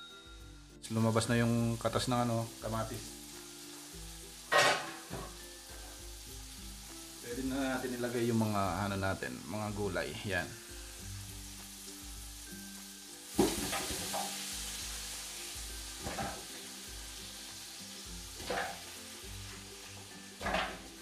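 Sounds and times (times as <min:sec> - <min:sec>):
vegetables sizzling in a hot pan: 0:00.2 - 0:21.0.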